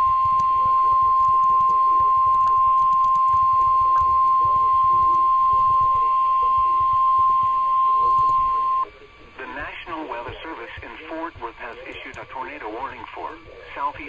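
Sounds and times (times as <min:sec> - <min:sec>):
steady alarm tone: 0:00.0 - 0:14.0.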